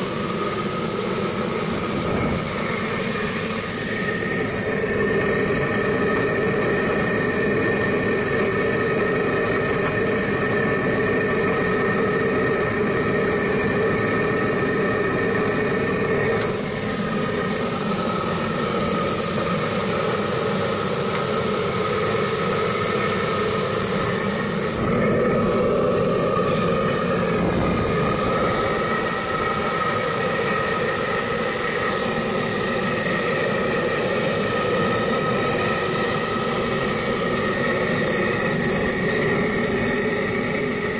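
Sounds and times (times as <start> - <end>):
tractor engine idling: 0.0 - 40.6.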